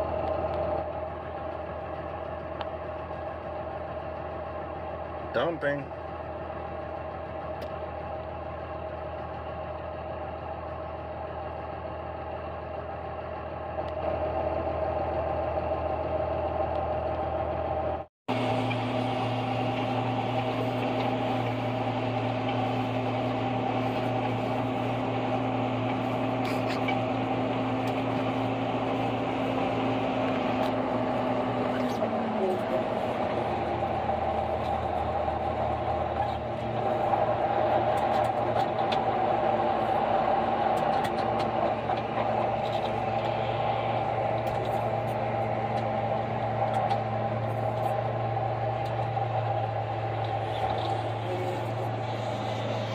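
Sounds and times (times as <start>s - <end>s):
tractor engine droning: 0.0s - 52.9s.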